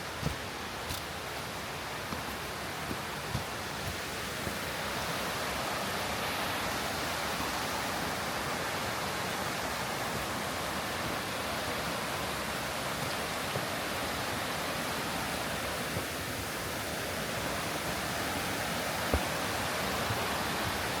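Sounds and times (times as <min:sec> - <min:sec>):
rushing stream water: 0:00.0 - 0:21.0.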